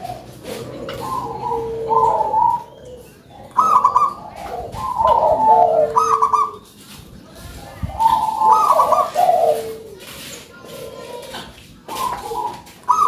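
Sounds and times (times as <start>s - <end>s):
dove cooing: 0.0s - 6.8s, 7.7s - 13.0s.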